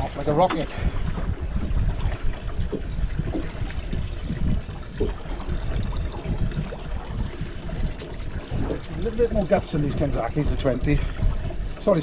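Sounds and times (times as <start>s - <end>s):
low uneven rumble: 0.0s - 12.0s
water slopping against boat hull: 0.0s - 12.0s.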